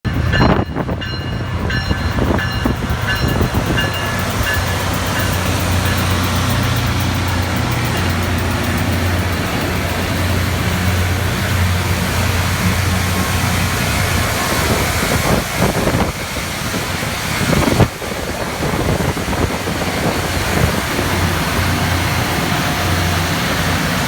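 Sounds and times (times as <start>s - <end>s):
rail grinder grinding: 0.1s - 24.0s.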